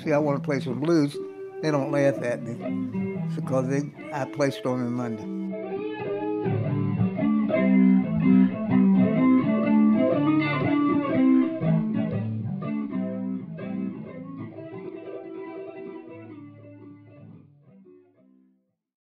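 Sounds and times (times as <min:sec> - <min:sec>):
electric guitar music: 0:00.0 - 0:18.5.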